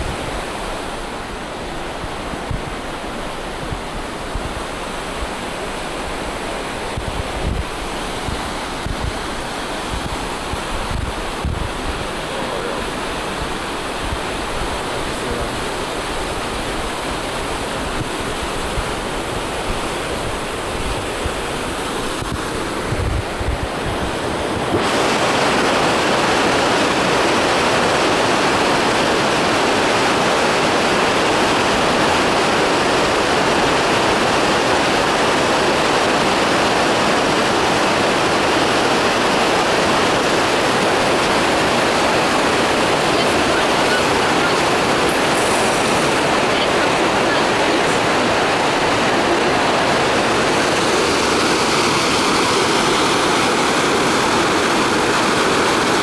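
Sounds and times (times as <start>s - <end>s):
river rapids rushing: 0.0s - 56.0s
wind buffeting microphone: 0.0s - 56.0s.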